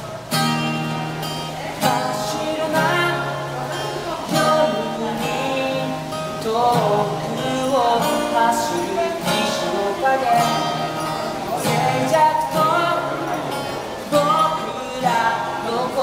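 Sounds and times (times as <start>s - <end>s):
acoustic guitar strumming: 0.0s - 16.0s
person singing: 1.1s - 16.0s.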